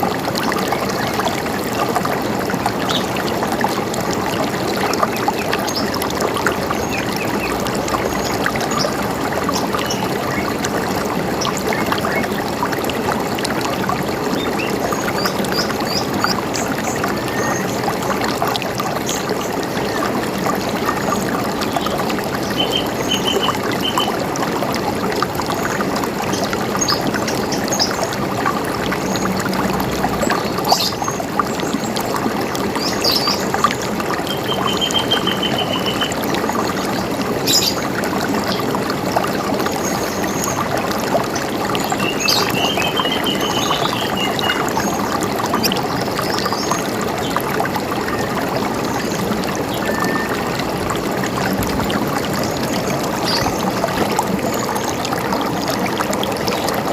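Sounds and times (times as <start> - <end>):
river water running: 0.0 - 56.9.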